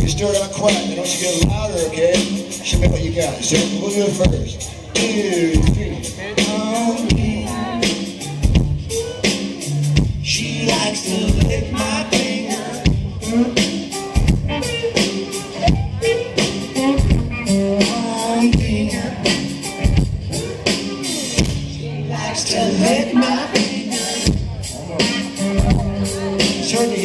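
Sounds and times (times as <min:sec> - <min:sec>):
drum kit beat: 0:00.0 - 0:27.0
electric guitar: 0:00.0 - 0:27.0
person singing: 0:00.2 - 0:27.0.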